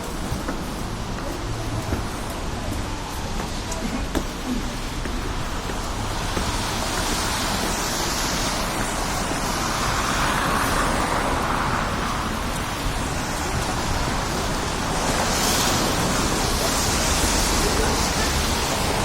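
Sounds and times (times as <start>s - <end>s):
street traffic: 0.0s - 19.0s
wind: 0.0s - 19.0s.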